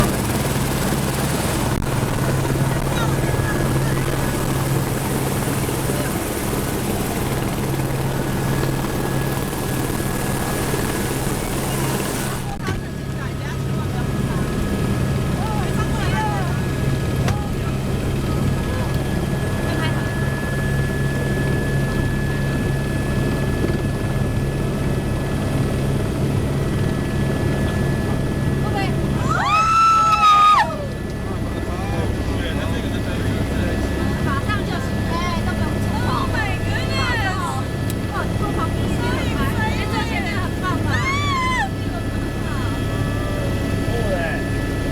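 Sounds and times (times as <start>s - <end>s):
helicopter running: 0.0s - 44.9s.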